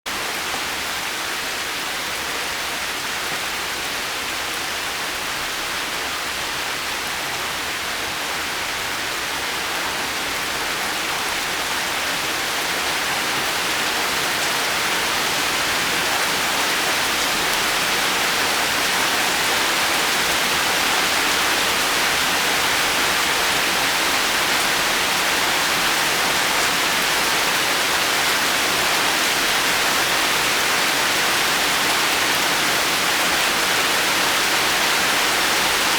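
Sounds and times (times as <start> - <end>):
heavy rain: 0.1 - 35.9.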